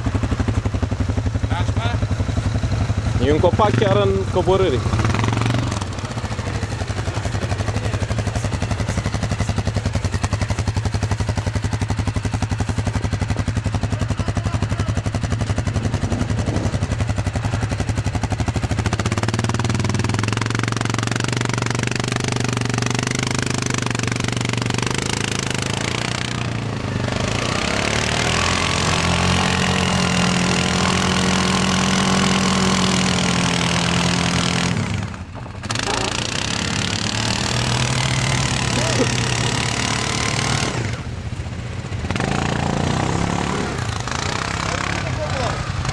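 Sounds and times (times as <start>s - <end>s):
quad bike engine running: 0.0s - 45.9s.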